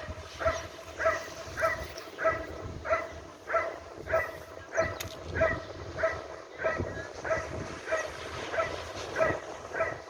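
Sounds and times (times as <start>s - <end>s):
dog barking: 0.4s - 10.0s.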